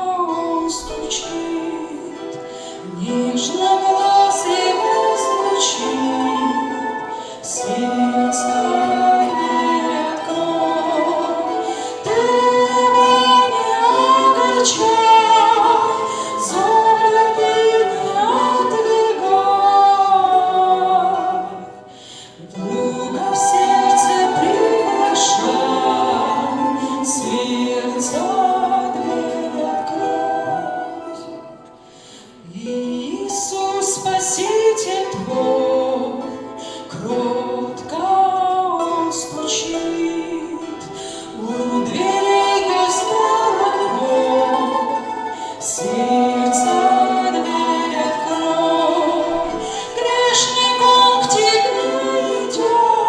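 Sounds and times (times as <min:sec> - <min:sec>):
choir singing worship song: 0:00.0 - 0:53.0
sustained accompaniment: 0:00.0 - 0:53.0.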